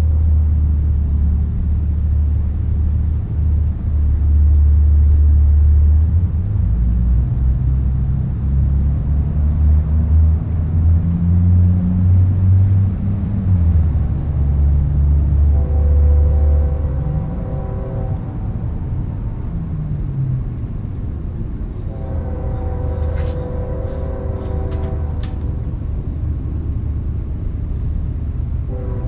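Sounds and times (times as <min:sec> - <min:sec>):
freight train locomotive rumble: 0:00.0 - 0:29.0.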